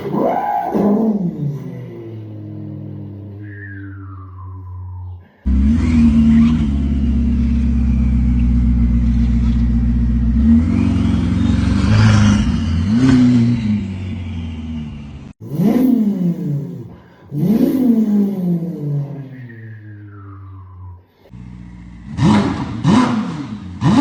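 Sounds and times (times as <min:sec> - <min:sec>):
imitated engine revs: 0:00.0 - 0:24.0.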